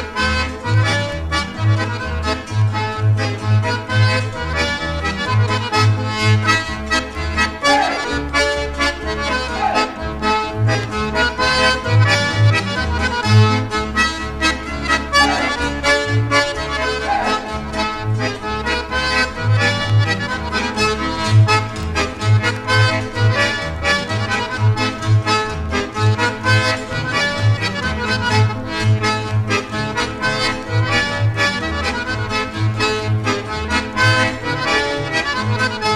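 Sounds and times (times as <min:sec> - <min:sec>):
accordion melody: 0:00.0 - 0:35.9
bass line: 0:00.7 - 0:31.0.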